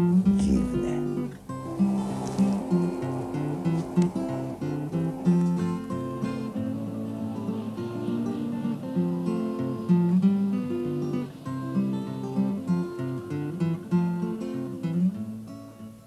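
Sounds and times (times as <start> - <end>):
acoustic guitar tune: 0.0 - 16.0.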